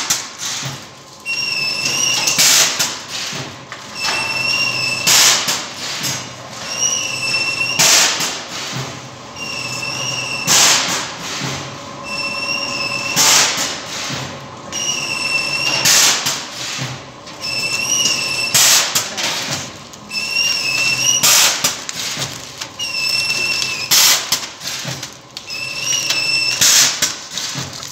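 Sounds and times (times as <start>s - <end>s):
packing machine noise bursts: 0.0s - 27.9s.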